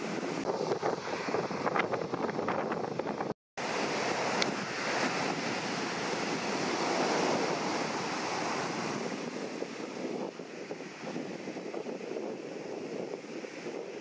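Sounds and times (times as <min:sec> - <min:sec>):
ocean waves breaking: 0:00.0 - 0:14.0
wind on microphone: 0:00.0 - 0:14.0.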